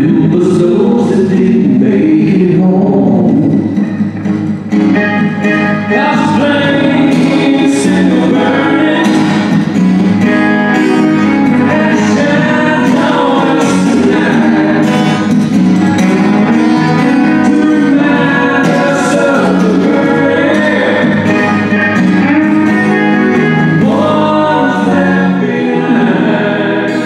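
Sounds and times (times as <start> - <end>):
person singing: 0.0 - 3.6, 5.5 - 9.6, 11.2 - 15.3, 16.2 - 27.0
acoustic guitar strumming: 0.0 - 27.0.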